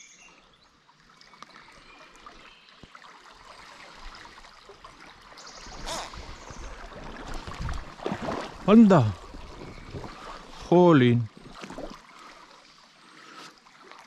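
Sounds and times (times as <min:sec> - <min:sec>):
water rushing: 0:01.0 - 0:13.9.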